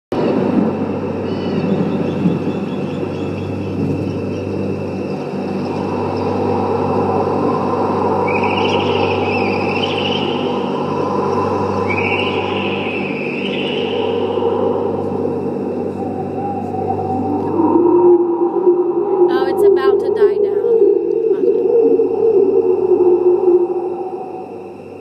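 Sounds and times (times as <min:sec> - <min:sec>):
low rumble with hum: 0:00.1 - 0:25.0
high wavering tone: 0:01.0 - 0:25.0.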